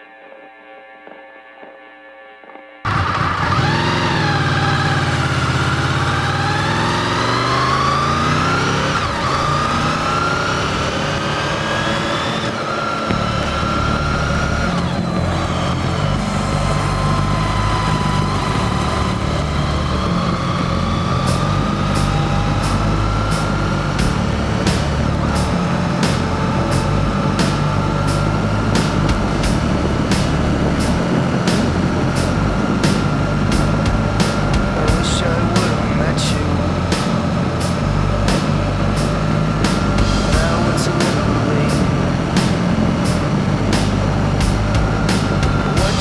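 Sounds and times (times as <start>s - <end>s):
motorcycle engine revving: 2.8s - 46.0s.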